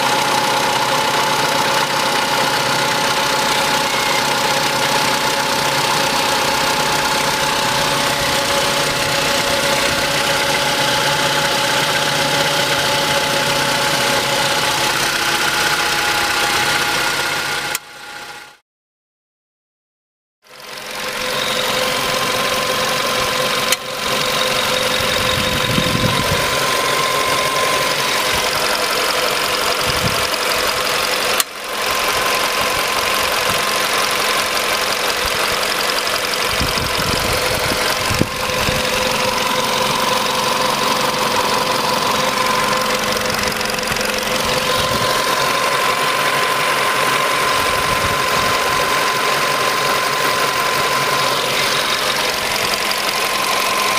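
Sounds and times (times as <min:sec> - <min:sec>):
car engine idling: 0:00.0 - 0:18.5, 0:20.5 - 0:53.9
constant whine: 0:00.0 - 0:18.6, 0:20.5 - 0:53.9.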